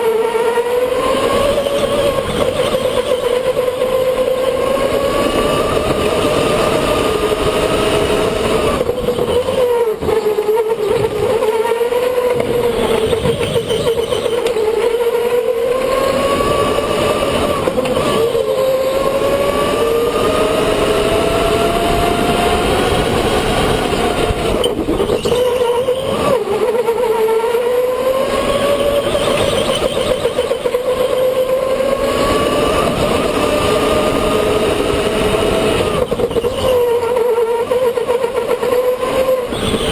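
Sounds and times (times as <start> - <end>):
driving noise: 0.0 - 39.9
electric motor whining: 0.0 - 39.9.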